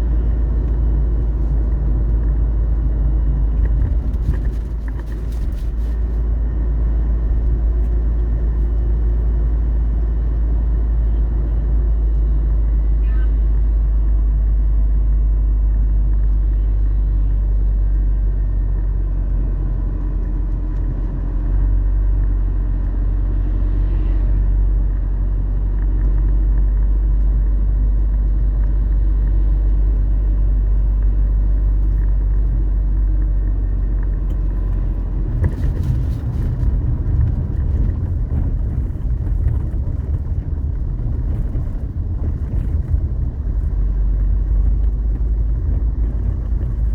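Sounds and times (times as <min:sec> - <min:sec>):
vehicle deep rumble: 0:00.0 - 0:46.9.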